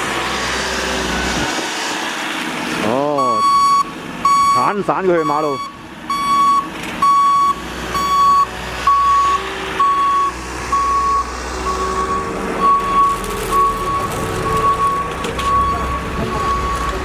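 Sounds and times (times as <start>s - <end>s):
low engine rumble: 3.0s - 17.0s
vehicle backup alarm beeping: 3.2s - 17.0s.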